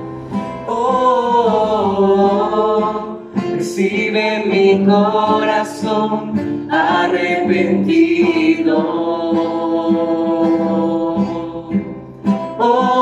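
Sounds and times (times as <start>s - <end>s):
acoustic guitar: 0.0s - 13.0s
man and woman singing: 0.4s - 13.0s.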